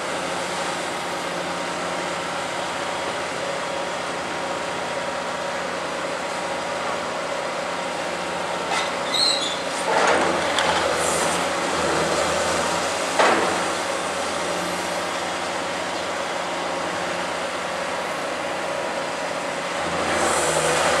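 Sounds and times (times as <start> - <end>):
excavator running: 0.0 - 21.0.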